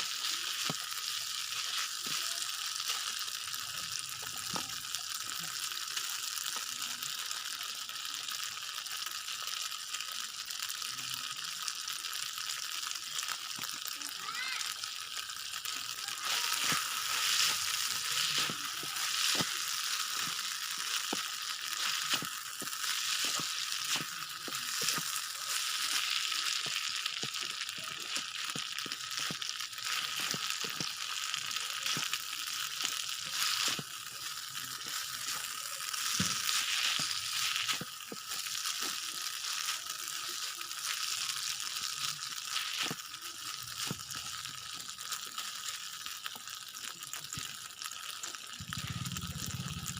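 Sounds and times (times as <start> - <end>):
rice sizzling in a pan: 0.0 - 49.9.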